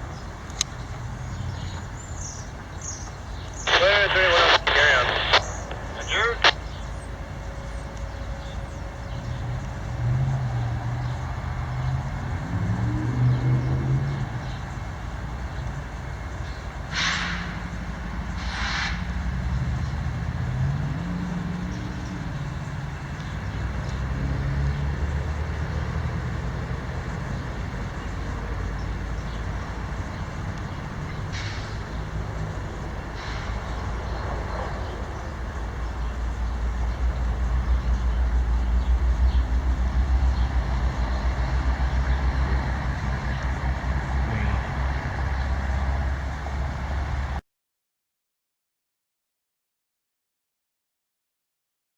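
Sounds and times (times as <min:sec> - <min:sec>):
heavy vehicles rumbling past: 0:00.0 - 0:47.4.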